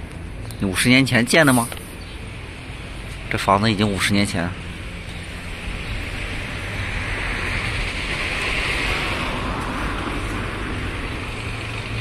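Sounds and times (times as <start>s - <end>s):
low steady traffic rumble: 0.0s - 12.0s
passing car tyre noise: 0.0s - 12.0s.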